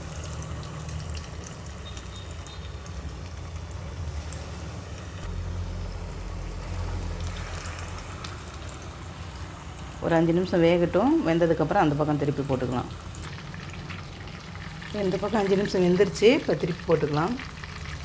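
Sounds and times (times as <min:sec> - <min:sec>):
chicken sizzling in hot oil: 0:00.0 - 0:10.1, 0:11.0 - 0:18.0.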